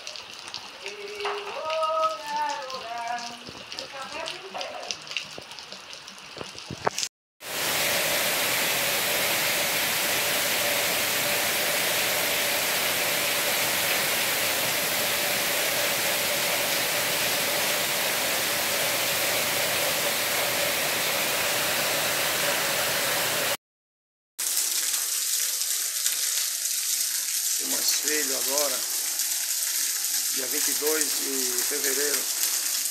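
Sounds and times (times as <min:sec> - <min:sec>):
heavy rain pouring: 0:00.0 - 0:23.6, 0:24.4 - 0:32.9.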